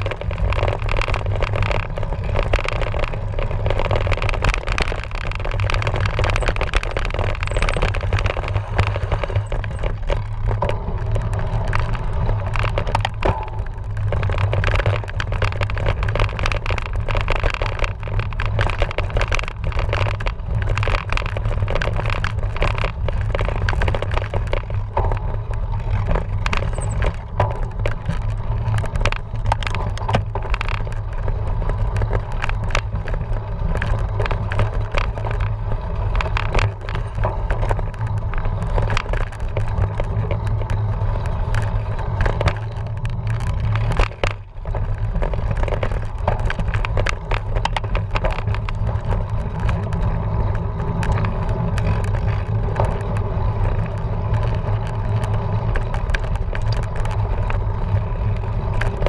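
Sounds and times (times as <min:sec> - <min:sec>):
bike frame and chain rattling: 0:00.0 - 0:59.0
bike rumbling over rough ground: 0:00.0 - 0:59.0.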